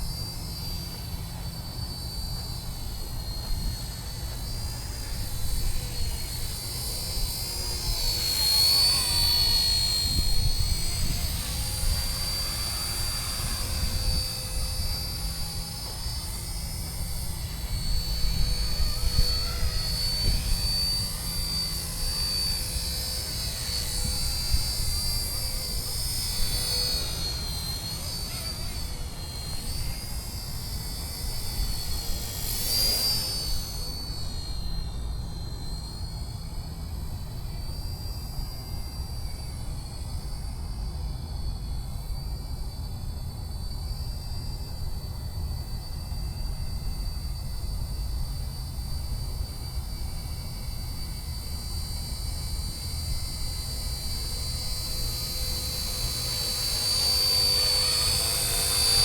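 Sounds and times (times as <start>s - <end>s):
rotor noise: 0.0s - 39.4s, 50.2s - 59.0s
model helicopter motor whine: 0.0s - 59.0s.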